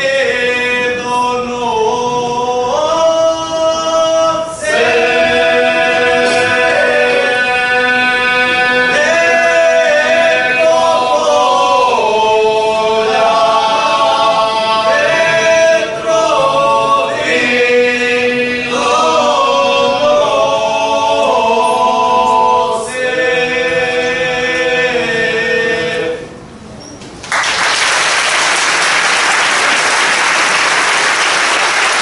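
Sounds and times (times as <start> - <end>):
male vocal group singing a cappella: 0.0 - 26.5.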